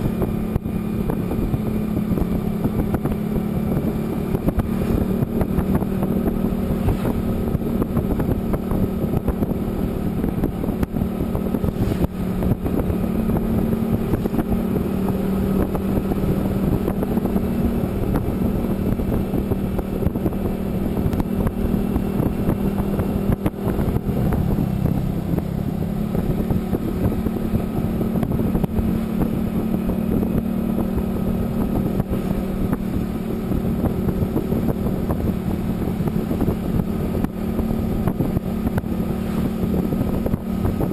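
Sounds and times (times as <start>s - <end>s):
road rumble: 0.0s - 40.9s
vehicle engine cruising: 0.0s - 40.9s.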